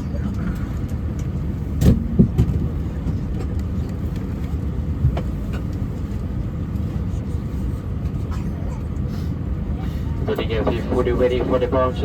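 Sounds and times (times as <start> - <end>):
air conditioning and engine rumble: 0.0 - 12.0.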